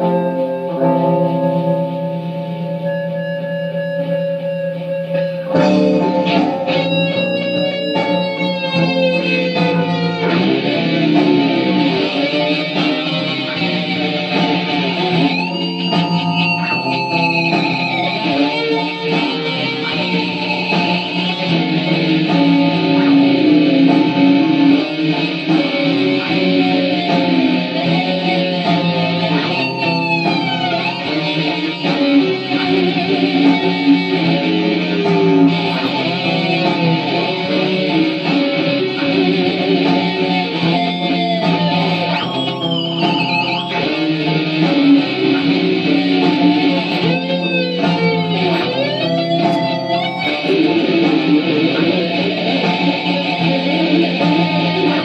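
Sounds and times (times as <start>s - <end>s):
electric guitar lead with bends: 0.0s - 55.0s.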